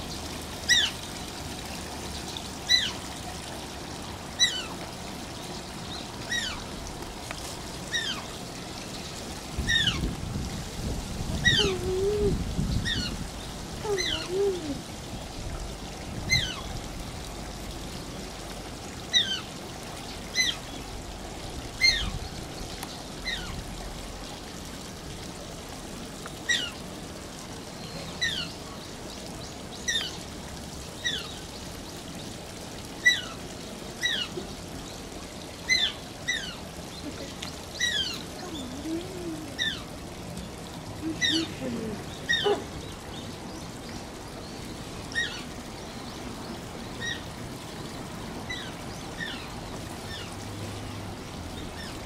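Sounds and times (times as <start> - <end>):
trickle of running water: 0.0 - 52.0.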